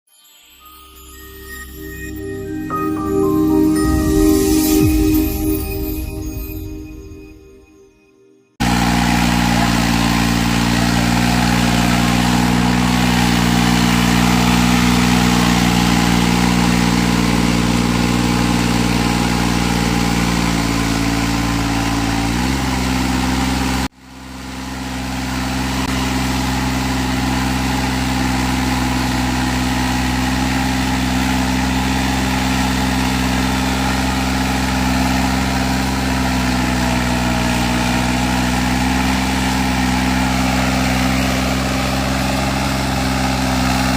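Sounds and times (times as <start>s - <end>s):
tractor diesel engine running: 8.6s - 43.9s.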